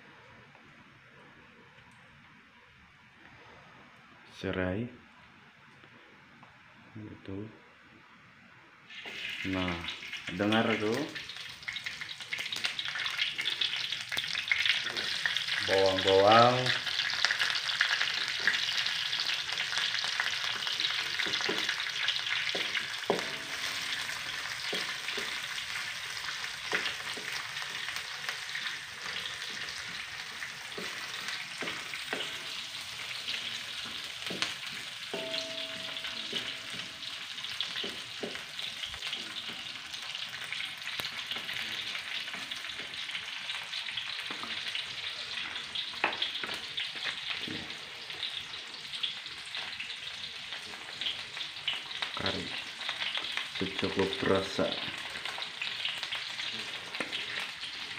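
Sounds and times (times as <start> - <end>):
vegetables sizzling in hot oil: 8.9 - 57.9.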